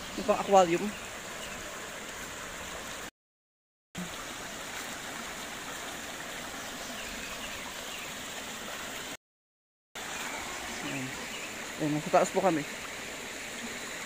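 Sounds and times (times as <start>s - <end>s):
creek water rushing over stones: 0.0s - 3.1s, 4.0s - 9.2s, 10.0s - 14.0s.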